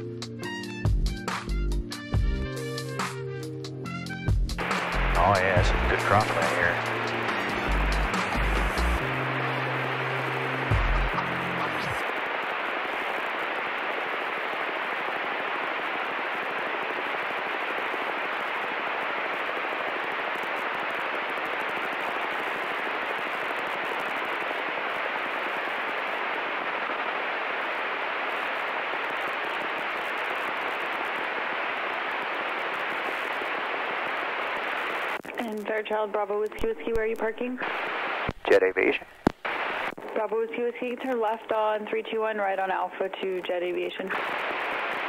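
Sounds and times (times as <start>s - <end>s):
steady headset intercom hiss: 4.6s - 45.0s.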